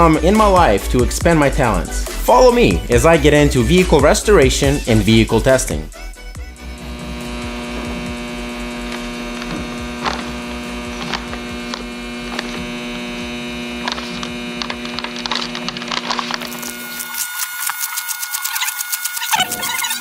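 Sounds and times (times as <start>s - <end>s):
electrical hum with low throb: 0.0s - 20.0s.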